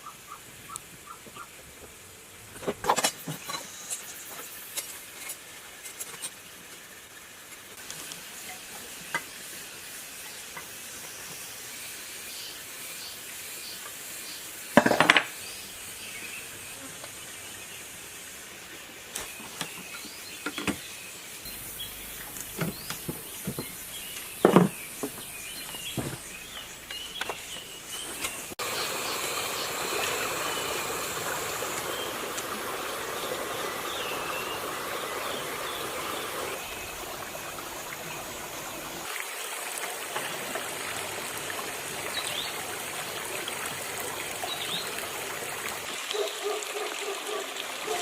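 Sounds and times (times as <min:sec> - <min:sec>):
light steady hiss: 0:00.0 - 0:48.0.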